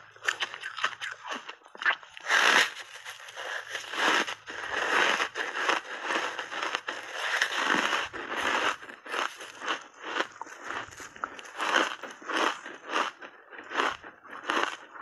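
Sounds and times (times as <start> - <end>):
ice crunching while chewed: 0.0 - 15.0.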